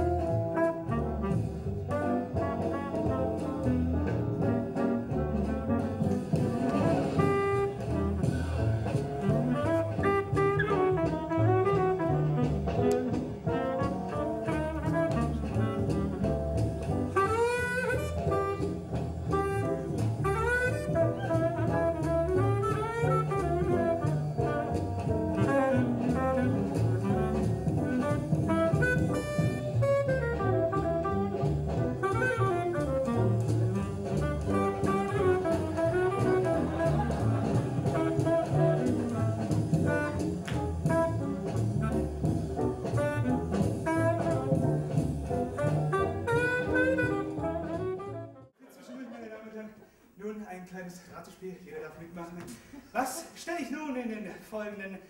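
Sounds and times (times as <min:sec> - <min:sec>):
jazz band playing: 0:00.0 - 0:48.6.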